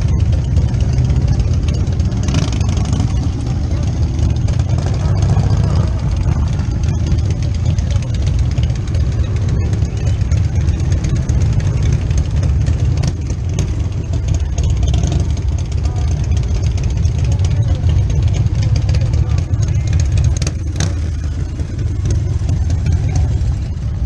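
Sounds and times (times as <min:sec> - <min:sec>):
motorcycle engine idling: 0:00.0 - 0:24.0
voices in background: 0:00.0 - 0:24.0.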